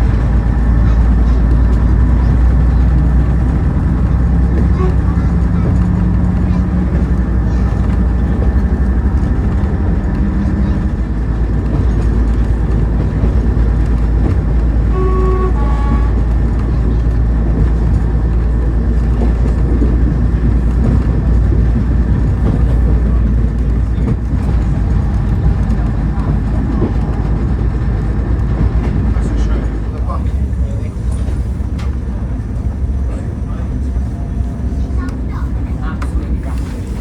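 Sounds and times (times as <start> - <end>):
diesel railcar engine rumble: 0.0 - 37.0.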